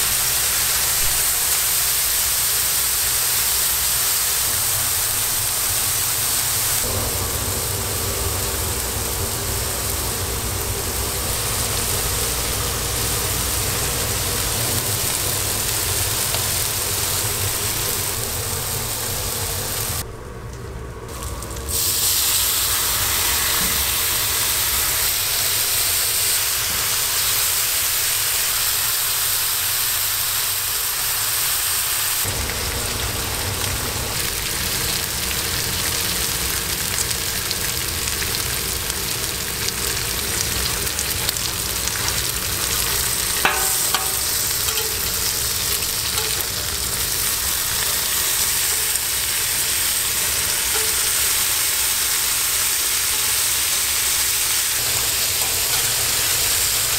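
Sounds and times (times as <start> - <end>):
meat sizzling on a griddle: 0.0 - 20.0, 21.1 - 56.9.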